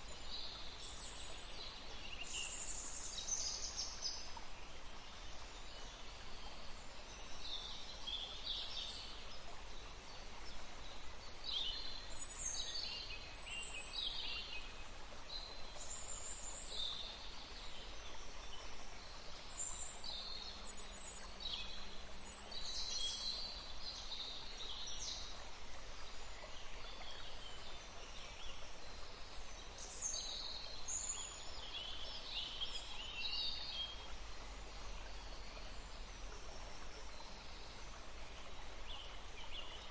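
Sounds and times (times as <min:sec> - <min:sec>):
faint water rushing: 0:00.0 - 0:39.9.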